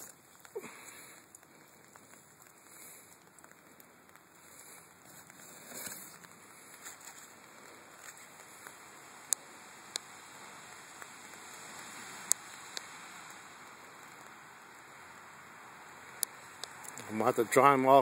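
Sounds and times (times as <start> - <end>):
sharp raindrop ticks: 0.0 - 17.6
light rain hissing: 0.0 - 18.0.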